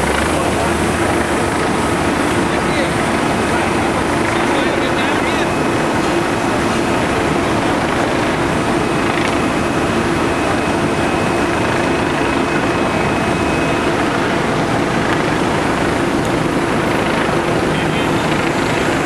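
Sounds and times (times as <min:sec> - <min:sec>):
thin high whine: 0:00.0 - 0:19.0
truck engine droning: 0:00.0 - 0:19.0.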